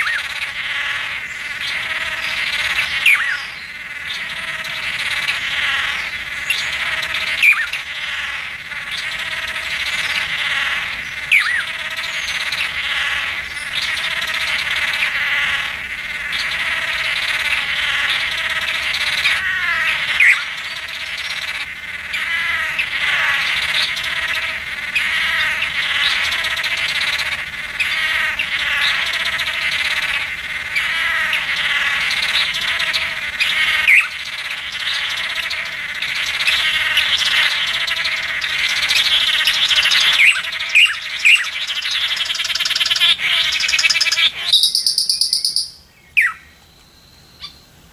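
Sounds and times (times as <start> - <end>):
chorus of buzzy bird calls: 0.0 - 47.9.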